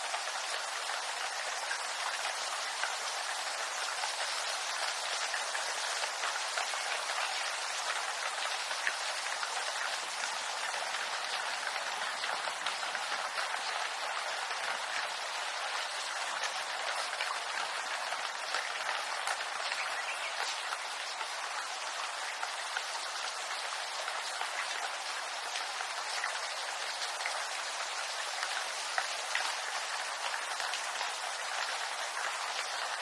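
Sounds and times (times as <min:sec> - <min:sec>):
rain pattering on bamboo: 0:00.0 - 0:33.0.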